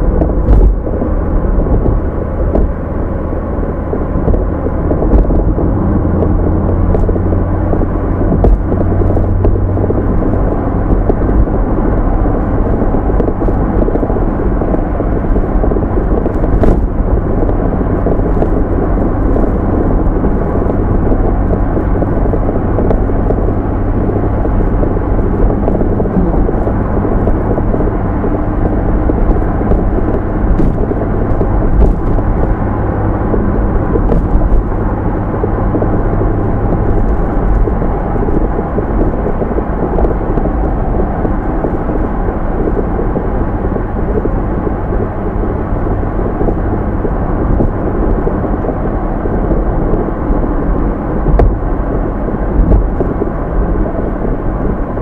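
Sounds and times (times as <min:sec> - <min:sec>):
car engine rumbling: 0:00.0 - 0:55.0
low hum: 0:00.0 - 0:55.0.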